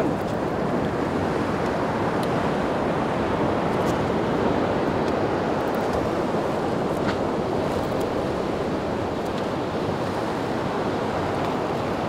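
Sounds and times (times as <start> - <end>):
sea surf: 0.0 - 12.0
wind on microphone: 0.0 - 12.0.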